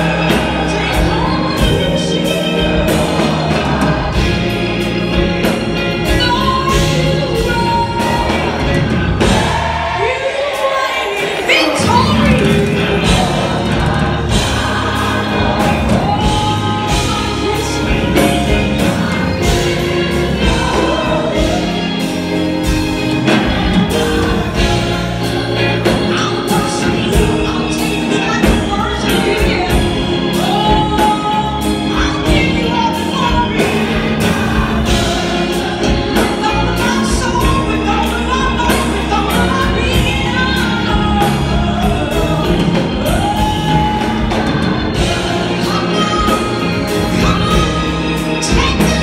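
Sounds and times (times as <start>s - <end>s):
gospel choir singing: 0.0s - 49.0s
lead soloist singing: 0.0s - 49.0s
live band with drumbeat: 0.0s - 49.0s.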